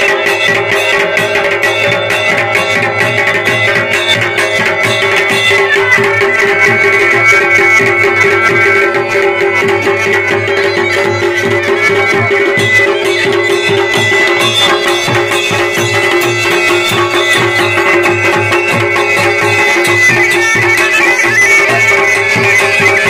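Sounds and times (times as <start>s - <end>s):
bagpipe drone and melody: 0.0s - 23.0s
drums beating steady rhythm: 0.0s - 23.0s.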